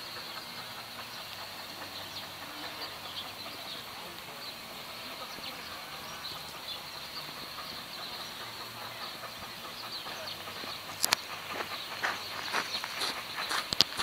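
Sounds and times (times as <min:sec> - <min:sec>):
distant steam locomotive rumble: 0:00.0 - 0:14.0.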